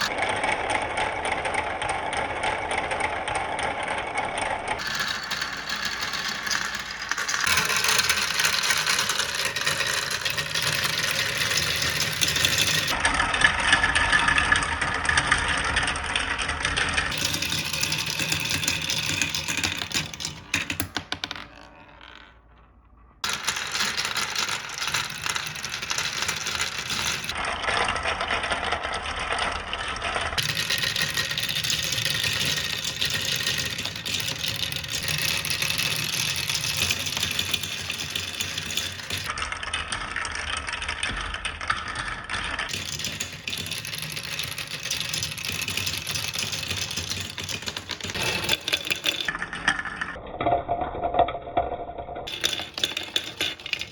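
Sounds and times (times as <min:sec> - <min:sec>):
marbles rolling and clattering: 0:00.0 - 0:53.9.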